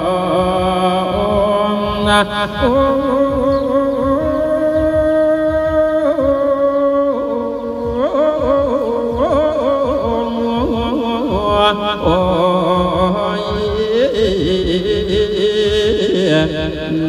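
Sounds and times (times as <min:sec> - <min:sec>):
steady low beat: 0:00.0 - 0:17.0
voice chanting over loudspeaker: 0:00.0 - 0:17.0.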